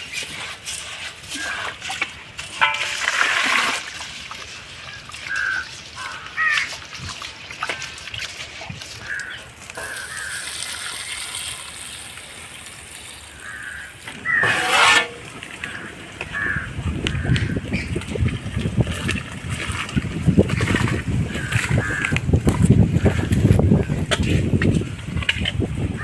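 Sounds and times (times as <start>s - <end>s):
water trickling and sloshing: 0.0s - 26.0s.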